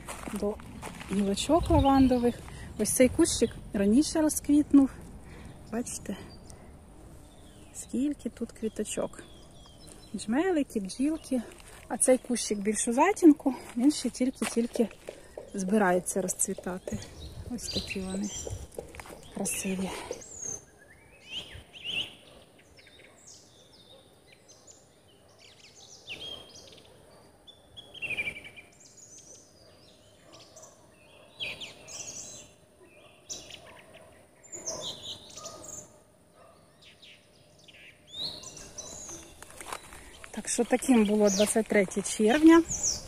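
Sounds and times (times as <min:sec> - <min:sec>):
garden birds chirping and singing: 0:00.0 - 0:43.0.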